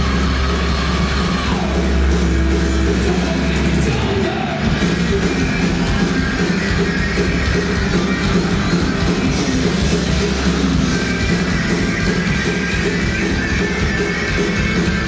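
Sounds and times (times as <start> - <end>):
bass guitar: 0.0 - 15.0
distorted electric guitars: 0.0 - 15.0
drums: 0.0 - 15.0.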